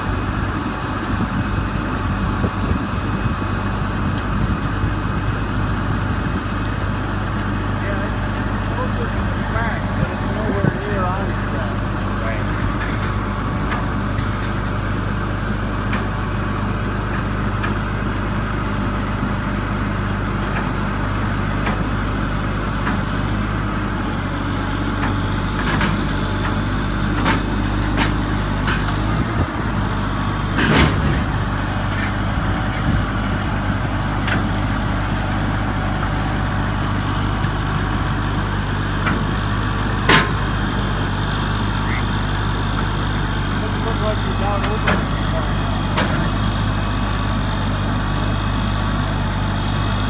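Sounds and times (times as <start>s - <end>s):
diesel crane engine running: 0.0s - 50.0s.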